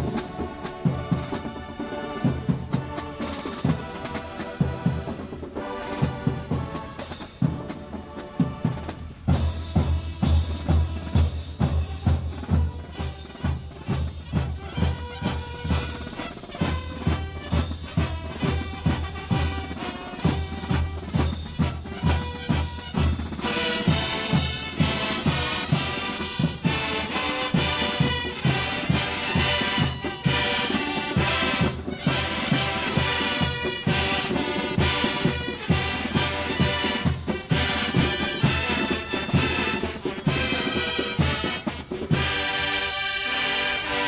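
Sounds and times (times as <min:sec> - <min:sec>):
brass bugles: 0:00.0 - 0:44.0
steady drum beat: 0:00.0 - 0:44.0.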